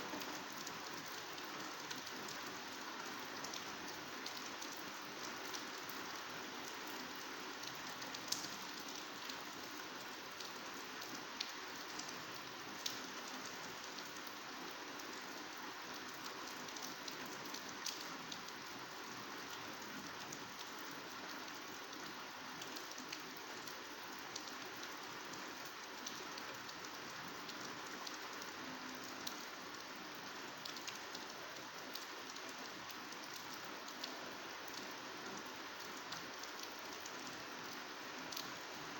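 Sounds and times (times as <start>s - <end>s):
heavy rain on vegetation: 0.0s - 38.9s.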